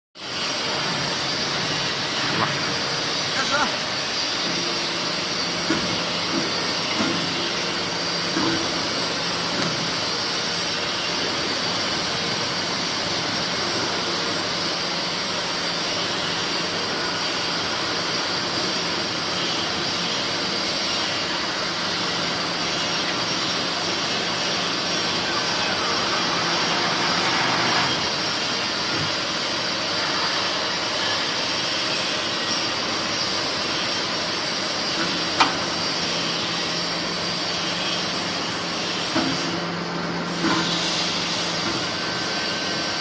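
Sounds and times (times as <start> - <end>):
hydraulic pump hiss and hum: 0.2 - 43.0.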